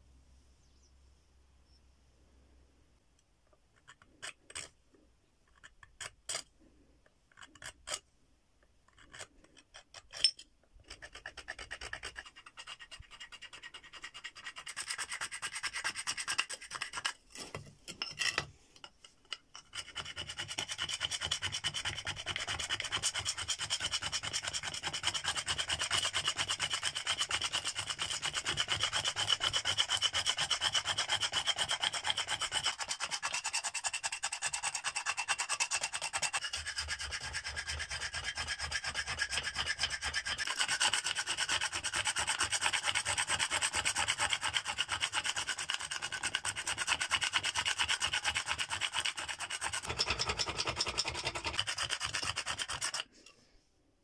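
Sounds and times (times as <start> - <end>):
stone scraping bone: 3.4 - 53.4.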